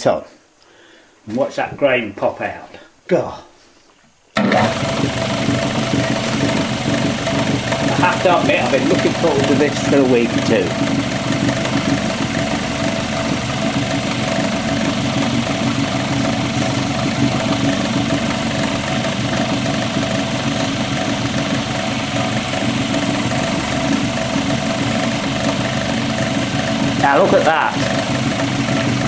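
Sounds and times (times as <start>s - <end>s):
wood lathe motor humming: 4.4s - 29.0s.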